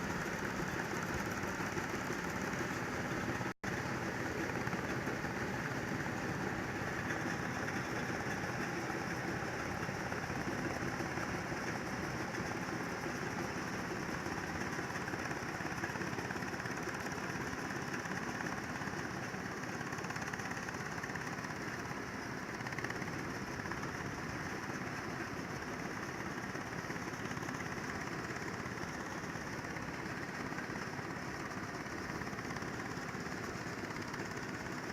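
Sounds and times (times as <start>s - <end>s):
combine harvester engine running: 0.0s - 34.9s.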